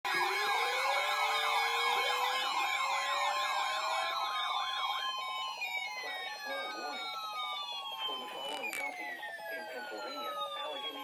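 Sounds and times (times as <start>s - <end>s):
rising and falling siren tones: 0.1s - 11.0s
siren fast yelp: 0.1s - 11.0s.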